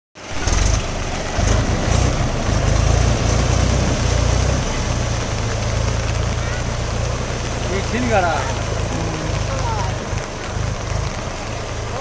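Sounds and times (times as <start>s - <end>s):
tractor engine rumbling: 0.2s - 12.0s.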